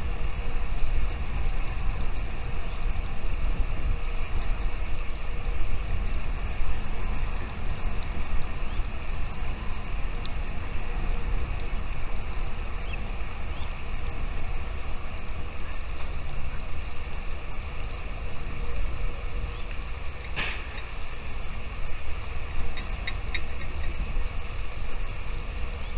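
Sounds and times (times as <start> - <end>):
low rumbling wind noise: 0.0 - 25.9.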